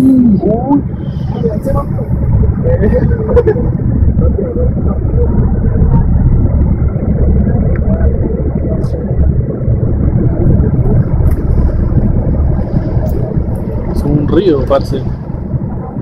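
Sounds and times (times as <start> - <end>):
heavy rain: 0.0 - 16.0
rushing floodwater: 0.0 - 16.0
wind buffeting microphone: 0.0 - 16.0.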